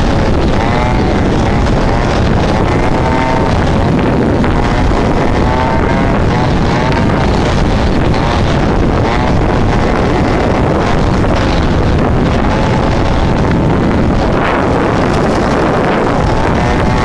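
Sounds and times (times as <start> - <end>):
two-stroke engine buzzing: 0.0 - 17.0
wind rush on microphone: 0.0 - 17.0.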